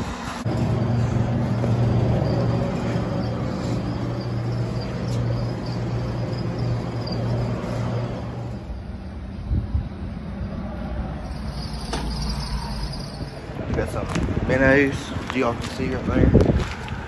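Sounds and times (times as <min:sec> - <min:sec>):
low mechanical hum: 0:00.0 - 0:14.4.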